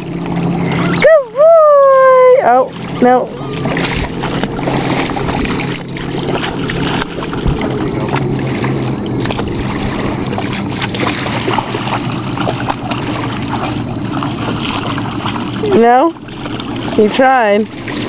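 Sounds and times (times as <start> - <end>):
low steady hum: 0.0 - 18.0
dog splashing in water: 2.5 - 18.0.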